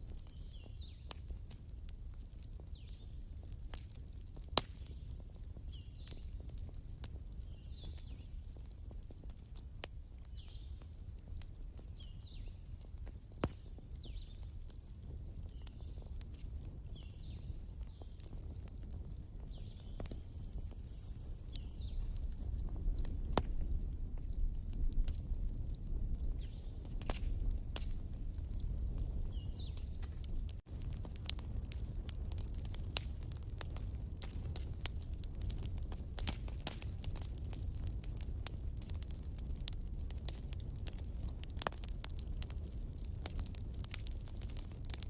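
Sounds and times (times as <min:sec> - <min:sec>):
sharp fire pops: 0:00.0 - 0:09.2, 0:09.8 - 0:45.0
wood fire crackling: 0:00.0 - 0:45.0.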